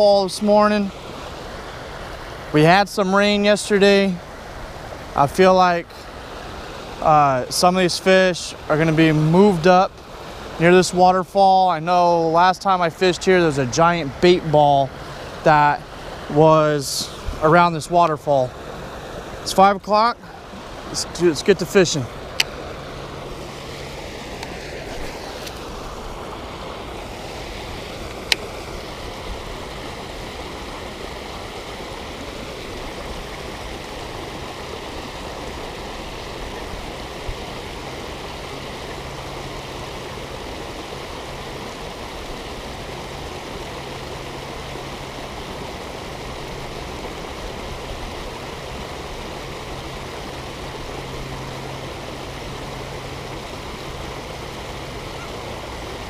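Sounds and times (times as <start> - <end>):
waterfall splashing into lake: 0.0 - 56.0.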